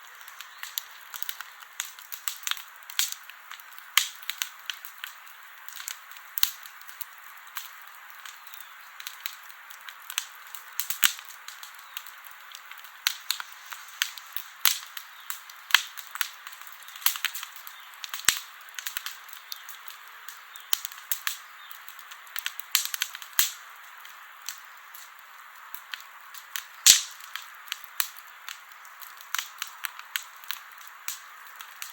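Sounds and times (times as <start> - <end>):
campfire crackling: 0.0 - 31.9.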